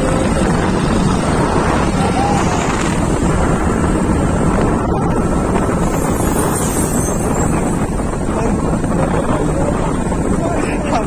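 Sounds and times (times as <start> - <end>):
motorcycle engine rumble: 0.0 - 11.0
wind rushing over microphone: 0.0 - 11.0.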